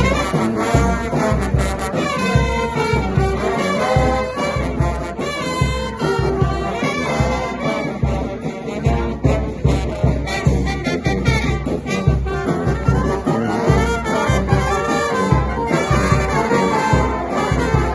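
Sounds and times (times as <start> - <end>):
brass band playing: 0.0 - 17.9.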